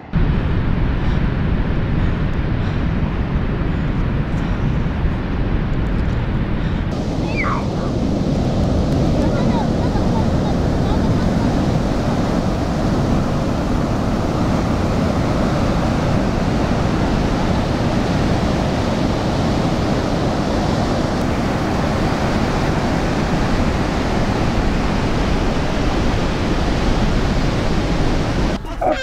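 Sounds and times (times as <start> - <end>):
ocean surf on beach: 0.0 - 29.0
wind on microphone: 0.0 - 29.0.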